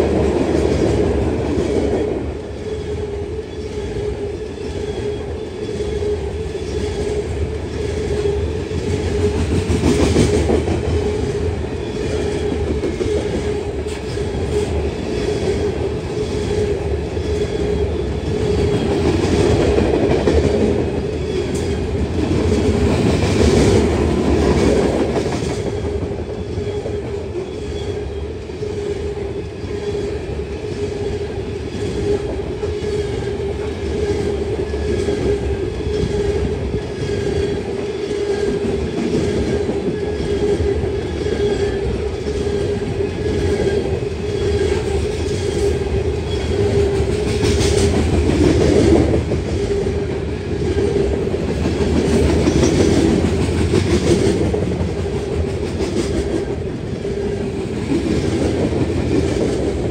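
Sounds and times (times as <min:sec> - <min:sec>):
train wheels clicking over rail joints: 0:03.5 - 0:59.9.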